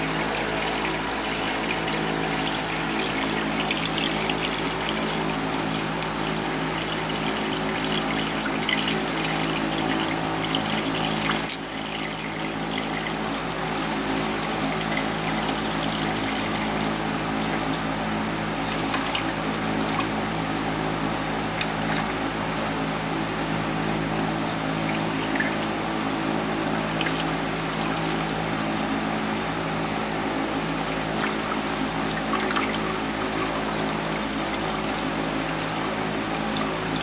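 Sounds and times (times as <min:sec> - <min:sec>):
liquid pouring and gurgling: 0:00.0 - 0:18.0, 0:18.6 - 0:20.1, 0:24.4 - 0:28.8, 0:30.8 - 0:37.0.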